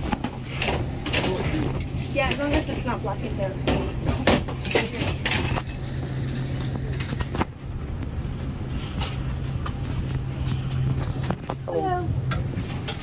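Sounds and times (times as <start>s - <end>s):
aircraft cabin ventilation hum: 0.0s - 13.0s.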